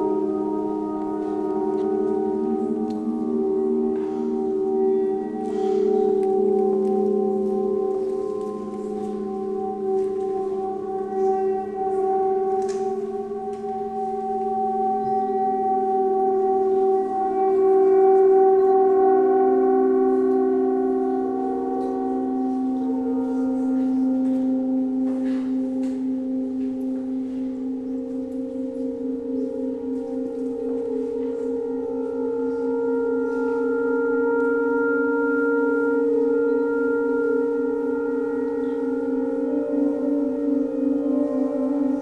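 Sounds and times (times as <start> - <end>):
gongs ringing drone: 0.0 - 42.0.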